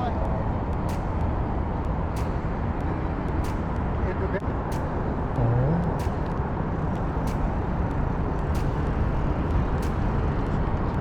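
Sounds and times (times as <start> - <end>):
heavy traffic rumble: 0.0 - 11.0.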